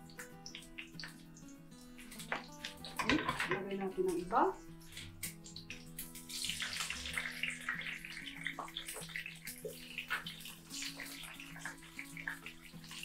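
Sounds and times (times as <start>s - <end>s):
food sizzling in a frying pan: 0.0s - 13.0s
soft background music: 0.0s - 13.0s.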